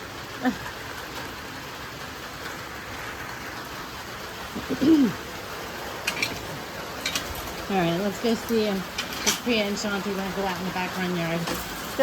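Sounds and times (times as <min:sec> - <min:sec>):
rain pattering on ground: 0:00.0 - 0:12.0.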